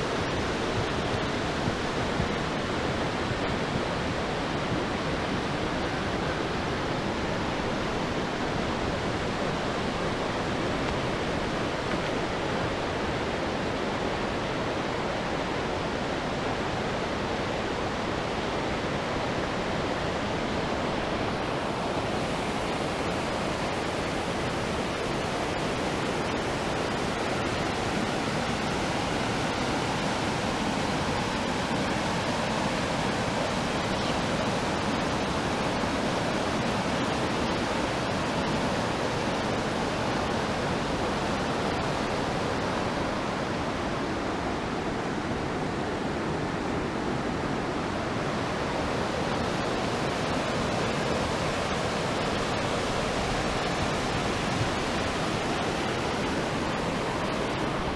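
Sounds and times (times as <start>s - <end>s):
flood water rushing: 0.0s - 57.9s.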